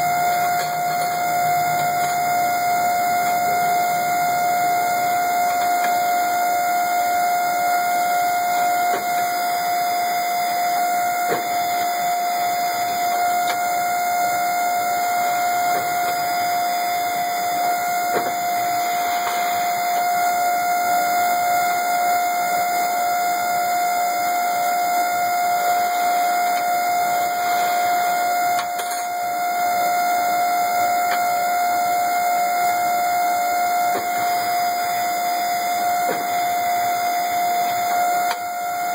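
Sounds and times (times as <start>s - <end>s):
bending machine high-pitched tone: 0.0s - 38.9s.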